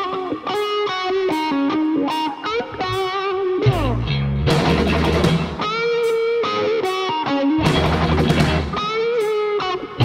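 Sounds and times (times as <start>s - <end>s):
lead electric guitar: 0.0s - 10.0s
rock band playing: 0.0s - 10.0s.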